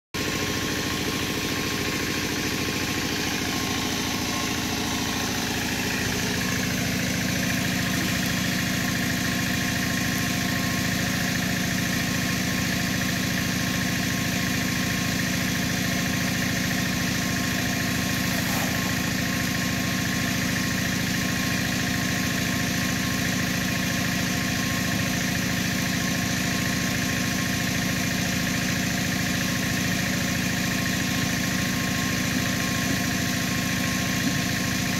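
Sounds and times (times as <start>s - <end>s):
engine humming steadily: 0.2s - 34.9s.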